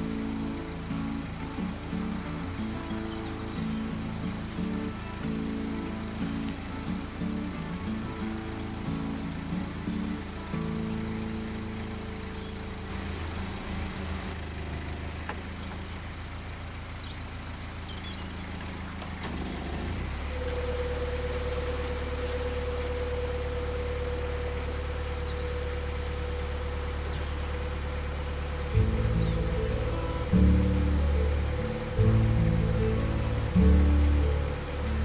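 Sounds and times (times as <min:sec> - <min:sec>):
boat engine idling: 0:00.0 - 0:35.0
steady engine whine: 0:00.0 - 0:35.0.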